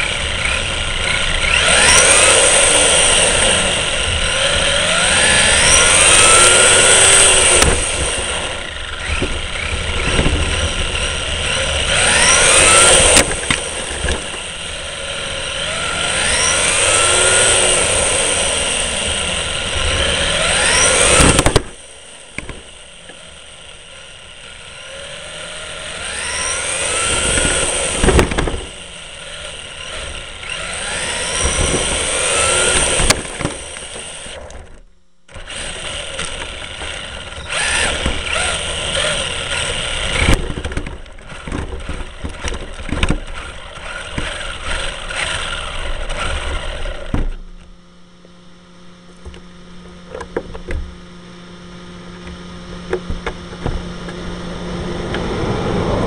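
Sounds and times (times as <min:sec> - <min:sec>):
engine revving: 0:00.0 - 0:47.2, 0:51.4 - 0:56.0.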